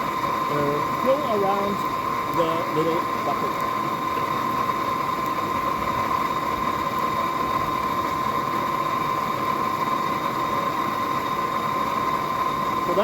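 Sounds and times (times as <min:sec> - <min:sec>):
steady high whine: 0:00.0 - 0:13.0.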